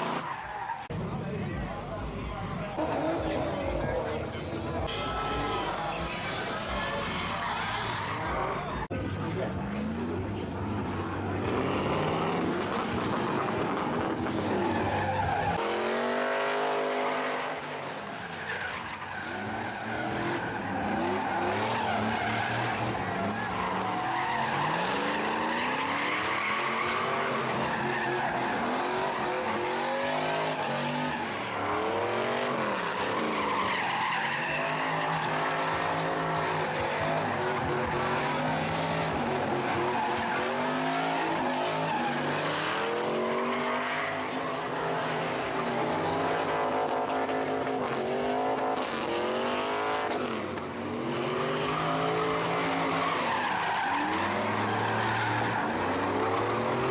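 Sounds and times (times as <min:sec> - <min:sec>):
tyres skidding on pavement: 0:00.0 - 0:56.9
car engine revving hard: 0:04.8 - 0:18.1, 0:19.3 - 0:56.9.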